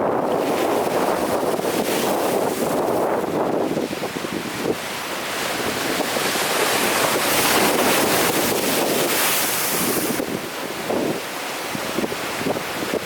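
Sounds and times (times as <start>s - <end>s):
ocean surf breaking on shore: 0.0s - 13.0s.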